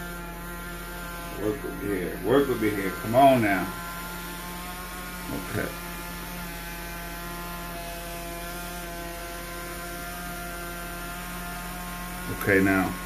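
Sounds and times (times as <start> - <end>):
generator electrical hum: 0.0 - 13.0.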